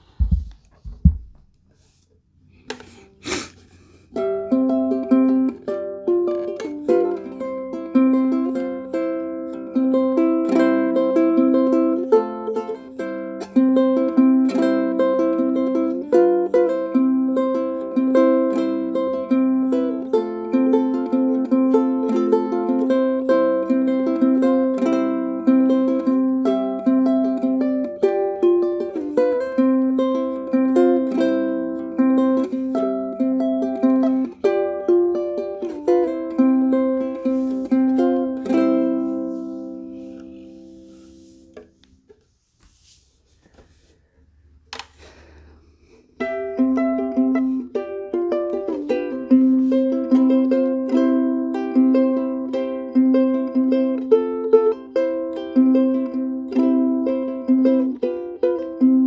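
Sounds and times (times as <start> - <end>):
plucked string music: 4.1 - 42.2, 46.1 - 59.0.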